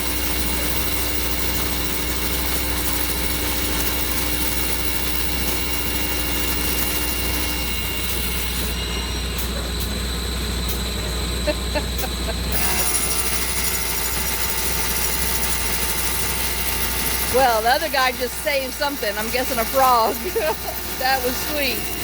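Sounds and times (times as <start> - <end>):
drilling through concrete: 0.0 - 8.9, 12.1 - 22.0
machinery drone and low hum: 0.0 - 22.0.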